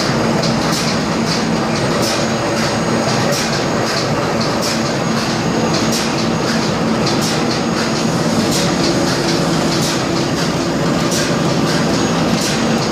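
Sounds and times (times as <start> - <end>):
machine mechanical hum: 0.0 - 12.9.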